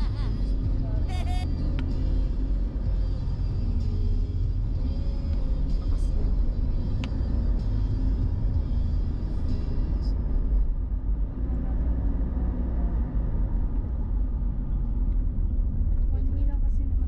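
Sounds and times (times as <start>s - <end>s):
car road rumble from inside: 0.0s - 17.0s.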